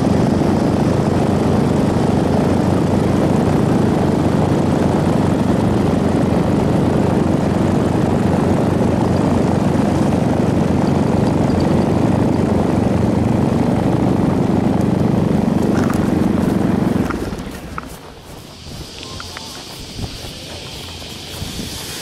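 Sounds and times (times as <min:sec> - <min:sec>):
paramotor engine and propeller: 0:00.0 - 0:22.0.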